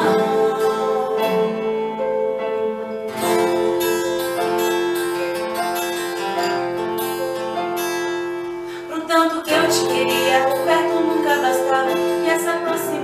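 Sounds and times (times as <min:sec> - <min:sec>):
acoustic guitar strumming: 0:00.0 - 0:13.0
held backing chords: 0:00.0 - 0:13.0.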